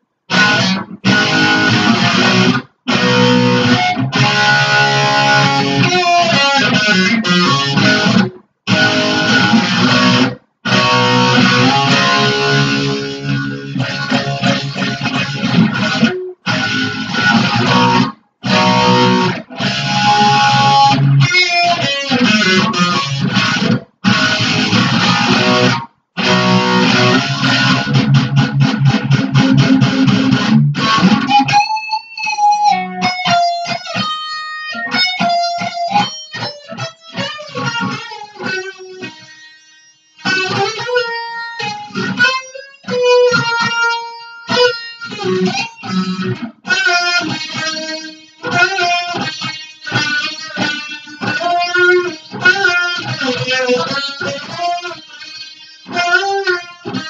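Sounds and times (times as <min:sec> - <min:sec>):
loud electric guitar: 0:00.3 - 0:57.0.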